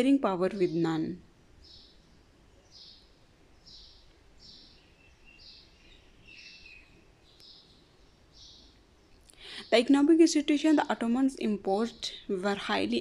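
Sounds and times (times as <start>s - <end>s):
background hiss: 0.0s - 13.0s
faint bird chirping: 0.0s - 13.0s.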